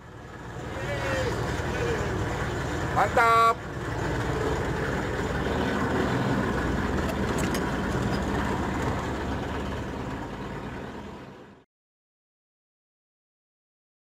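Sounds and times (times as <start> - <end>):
boat engine running: 0.0 - 11.6
sea noise: 0.0 - 11.6
wind: 0.0 - 11.7.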